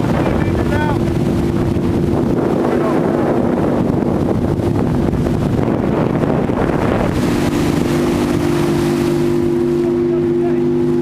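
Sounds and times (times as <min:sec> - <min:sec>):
boat engine droning: 0:00.0 - 0:11.0
rushing water: 0:00.0 - 0:11.0
wind buffeting microphone: 0:00.0 - 0:11.0.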